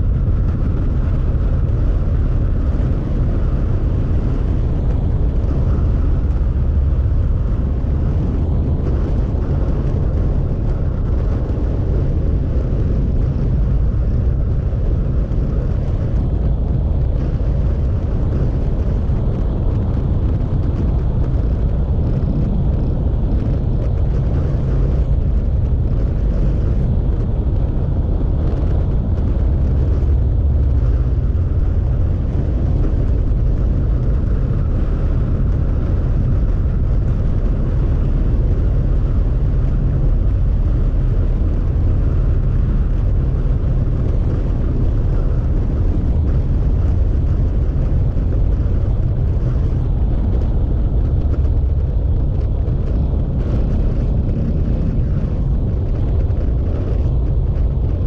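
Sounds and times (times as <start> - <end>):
motorcycle engine drone: 0.0 - 58.0
wind rush over microphone: 0.0 - 58.0.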